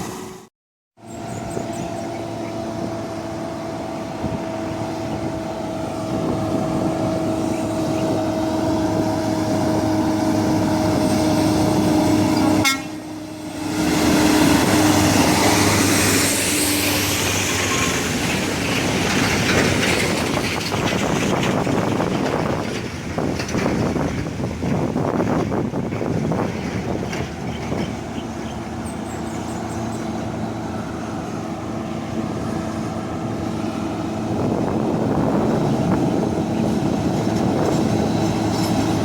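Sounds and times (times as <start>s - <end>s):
truck driving at high speed: 0.0s - 39.0s.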